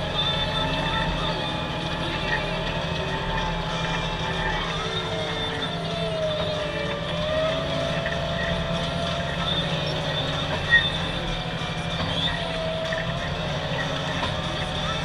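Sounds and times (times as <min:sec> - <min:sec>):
tractor running: 0:00.0 - 0:15.0
wavering whine: 0:00.0 - 0:15.0.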